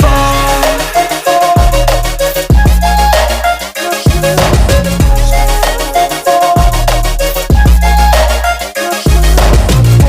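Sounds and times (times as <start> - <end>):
pop music with heavy bass: 0.0 - 10.0.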